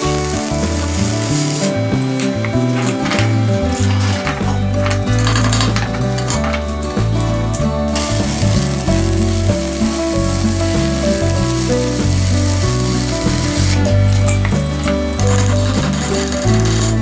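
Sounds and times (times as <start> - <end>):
background music: 0.0 - 17.0
welding arc crackling: 0.0 - 17.0.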